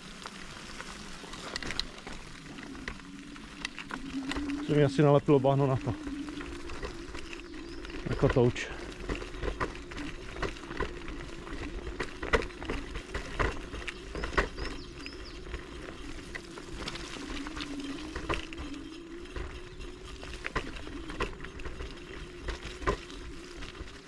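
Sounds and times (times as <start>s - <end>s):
electric scooter motor whine: 0.0s - 24.0s
wheels knocking and rattling: 0.0s - 24.0s.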